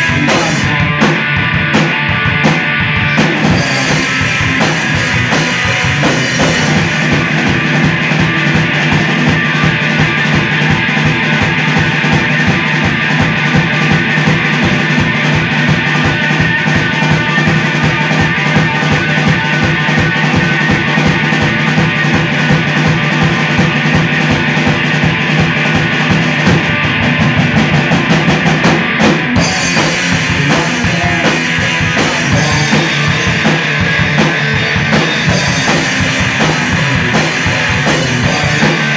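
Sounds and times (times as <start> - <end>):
drum kit hits: 0.0 - 38.9
rock band playing: 0.0 - 38.9.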